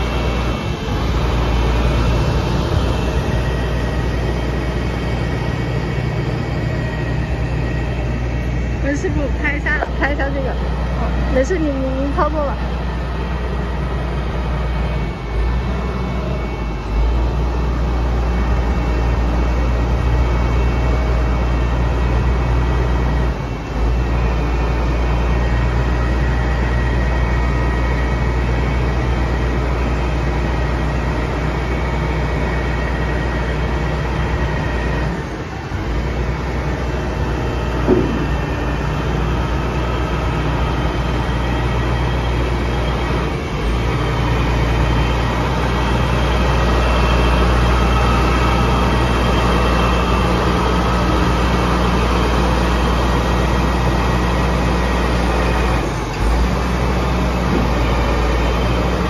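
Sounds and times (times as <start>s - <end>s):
diesel engine and hydraulics running: 0.0s - 59.0s.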